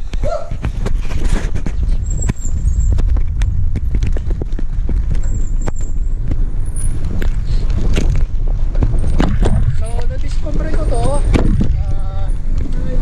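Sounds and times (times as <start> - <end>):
wind rumble on microphone: 0.0 - 13.0
bicycle clicks and knocks: 1.7 - 13.0.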